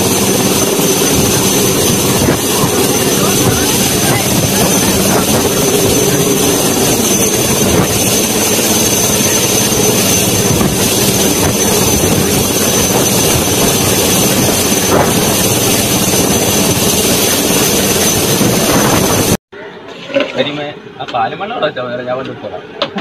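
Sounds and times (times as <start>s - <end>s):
helicopter rotor hovering: 0.0s - 19.4s.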